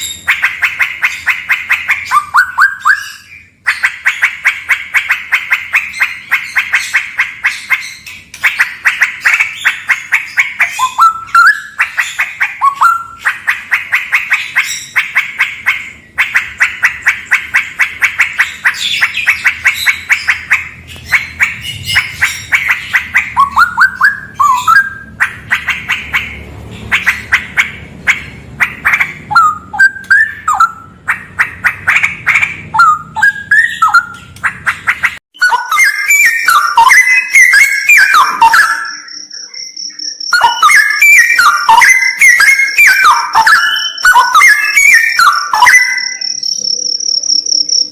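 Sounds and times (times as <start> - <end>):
bird singing buzzy trills: 0.0 - 47.9.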